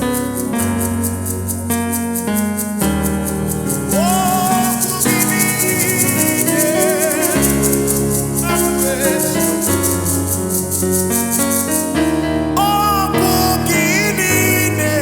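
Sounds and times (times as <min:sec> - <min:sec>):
shaker rhythm: 0:00.0 - 0:12.2
gliding melody line: 0:00.0 - 0:13.2
keyboard chords: 0:00.0 - 0:15.0.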